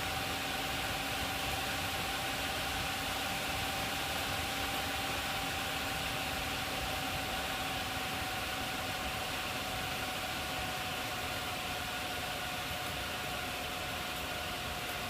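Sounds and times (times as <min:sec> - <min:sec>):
cooling fans whooshing: 0:00.0 - 0:15.0
thin steady whine: 0:00.0 - 0:15.0.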